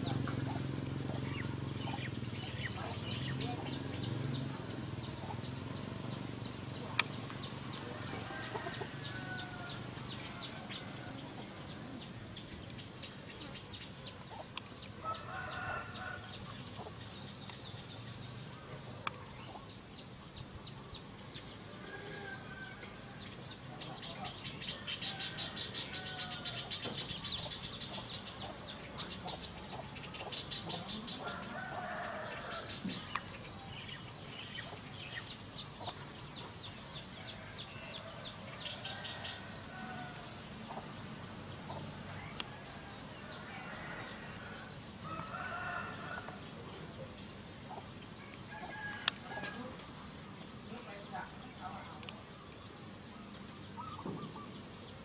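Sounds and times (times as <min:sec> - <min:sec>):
chickens clucking: 0:00.0 - 0:12.7, 0:13.4 - 0:17.2, 0:23.7 - 0:33.5, 0:34.2 - 0:52.8.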